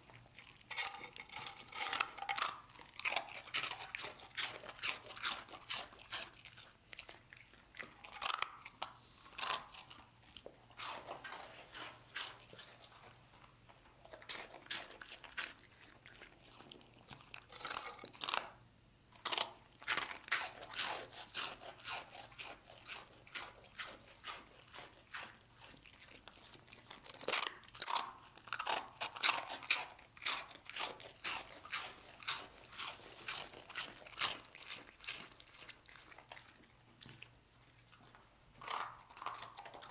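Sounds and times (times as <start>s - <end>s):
dog crunching dry food: 0.0s - 39.9s.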